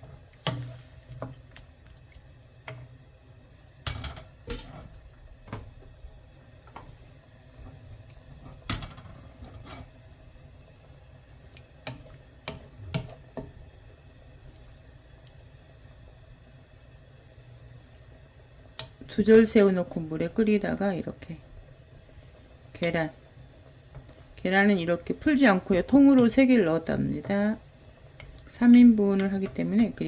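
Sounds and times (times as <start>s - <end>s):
soup pot simmering hiss: 0.0s - 30.0s.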